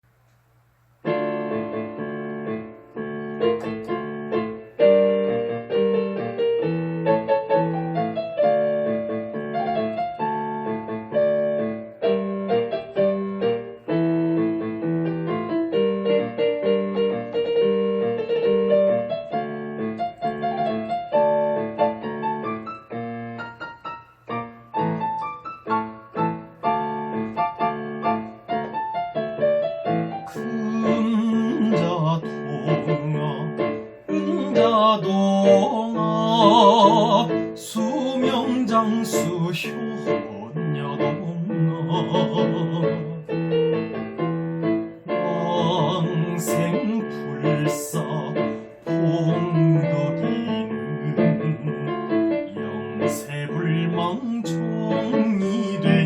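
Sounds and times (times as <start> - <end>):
piano-toned keyboard playing: 1.0 - 56.0.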